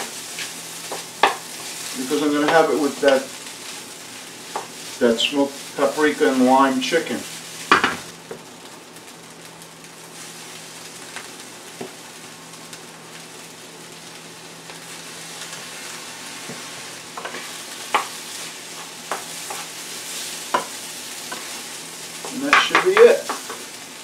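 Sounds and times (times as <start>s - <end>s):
rice and beans sizzling in skillet: 0.0s - 24.0s.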